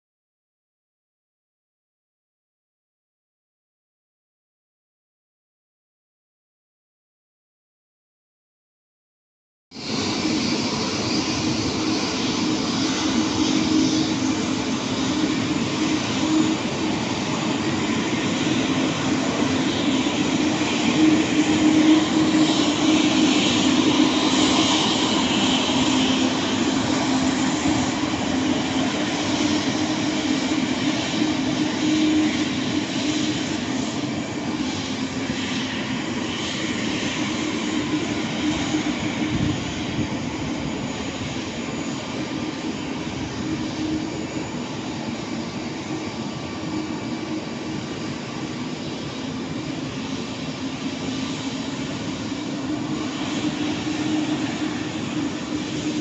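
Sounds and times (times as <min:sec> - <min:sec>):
jet airliner taxiing: 0:09.8 - 0:56.0.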